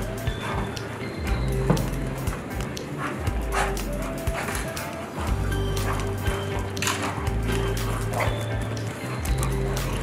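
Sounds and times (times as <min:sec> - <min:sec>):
background music with bass notes: 0:00.0 - 0:10.0.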